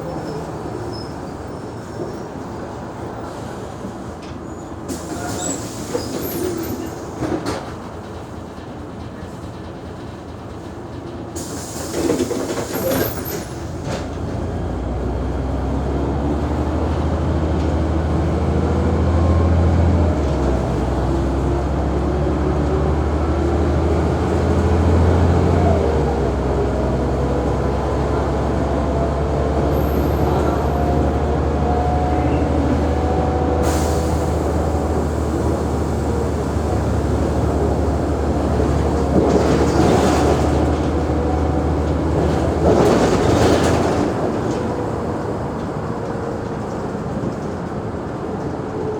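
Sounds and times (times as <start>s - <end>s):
diesel bus engine pulling: 0.0s - 48.9s.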